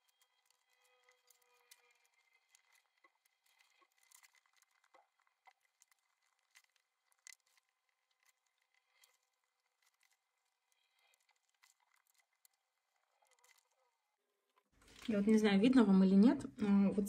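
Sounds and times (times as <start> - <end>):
soil crumbling and rustling: 0.0 - 15.5.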